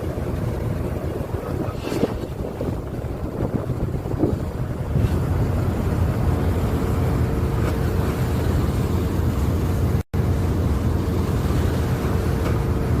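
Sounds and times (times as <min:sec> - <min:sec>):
wind and sea rumble: 0:00.0 - 0:13.0.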